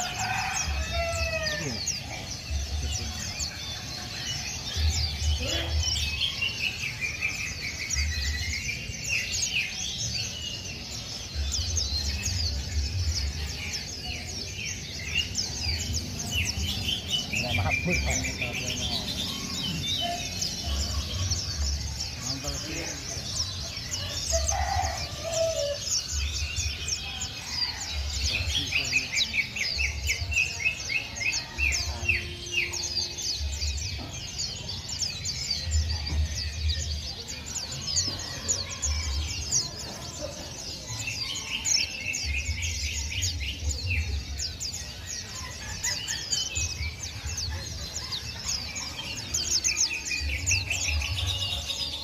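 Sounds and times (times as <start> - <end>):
songbirds chirping and trilling: 0.0 - 52.0.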